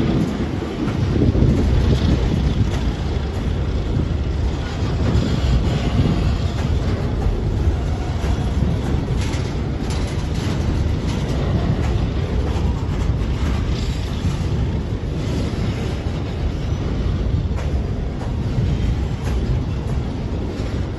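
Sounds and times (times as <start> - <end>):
freight train rumbling: 0.0 - 20.9
wheels clicking over rail joints: 0.0 - 20.9.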